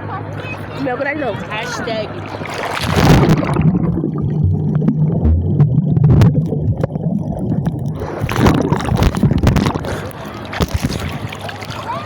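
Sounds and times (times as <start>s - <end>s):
muffled underwater hum and gurgling: 2.1s - 12.0s.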